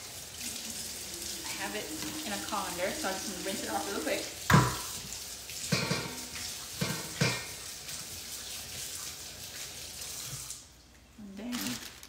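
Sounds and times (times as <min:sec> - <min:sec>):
tap water splashing in colander: 0:00.0 - 0:10.7.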